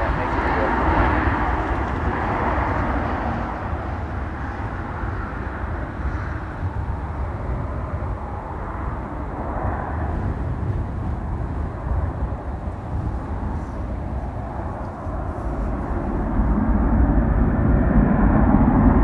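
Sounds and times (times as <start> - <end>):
jet airliner engine rushing: 0.0 - 19.0.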